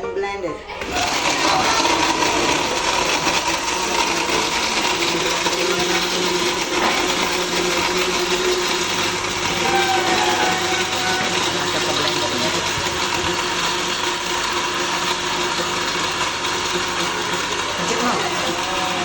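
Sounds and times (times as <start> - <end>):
electric blender running: 0.7 - 19.0.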